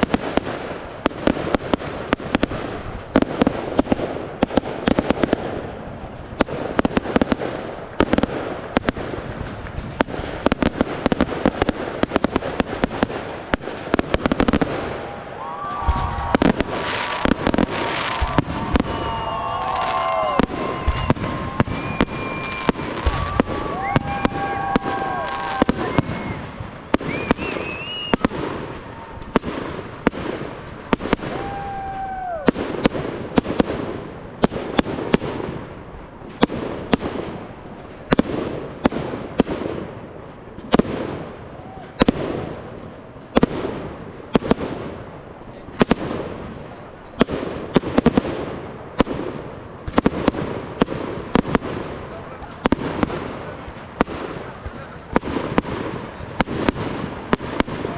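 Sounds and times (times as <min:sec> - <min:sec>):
fireworks bursting with crackle: 0:00.0 - 0:57.9.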